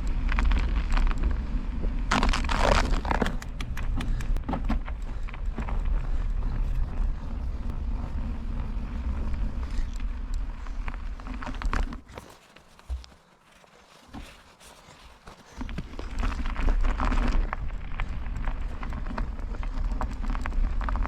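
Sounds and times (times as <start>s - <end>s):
bicycle tyres on road: 0.0s - 21.0s.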